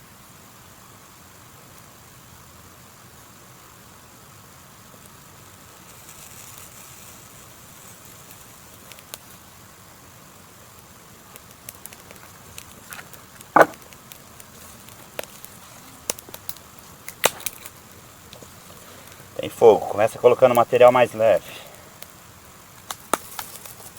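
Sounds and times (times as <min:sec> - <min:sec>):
faint fire hiss: 0:00.0 - 0:23.9
kindling fire crackling: 0:00.1 - 0:23.9.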